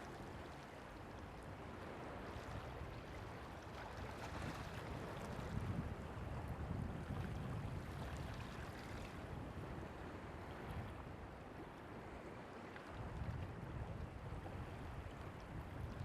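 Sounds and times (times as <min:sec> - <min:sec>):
wind noise on microphone: 0:01.8 - 0:12.2, 0:12.9 - 0:16.0.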